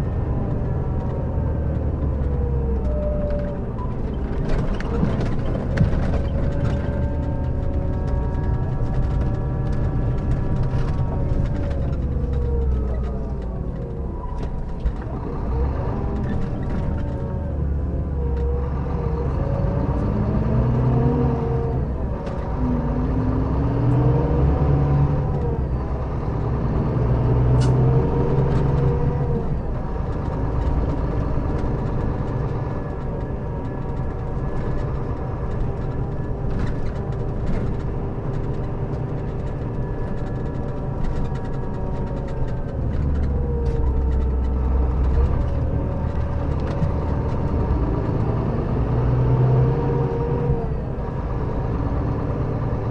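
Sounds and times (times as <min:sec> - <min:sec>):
bus diesel engine under load: 0:00.0 - 0:52.9.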